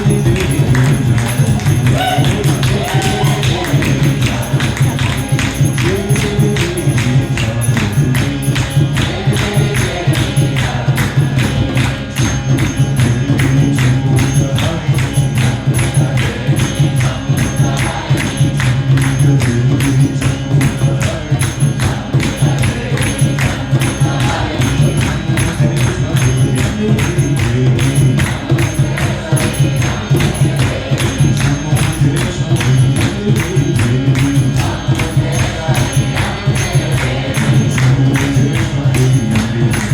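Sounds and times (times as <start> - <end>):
jingling hand percussion: 0.0 - 39.9
person chanting a devotional melody: 0.0 - 39.9.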